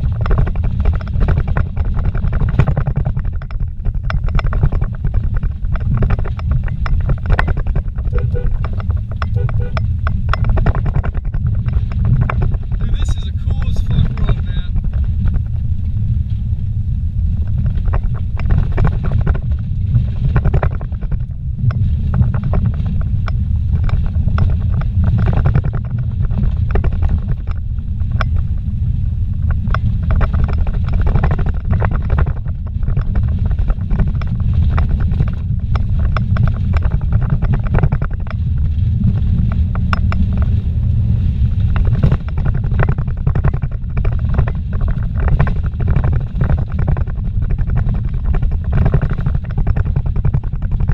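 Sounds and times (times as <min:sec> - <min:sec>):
small knocks in vehicle cabin: 0:00.0 - 0:15.6, 0:17.4 - 0:28.6, 0:29.5 - 0:40.6, 0:41.6 - 0:50.9
tyres rumbling on dirt road: 0:00.0 - 0:50.9.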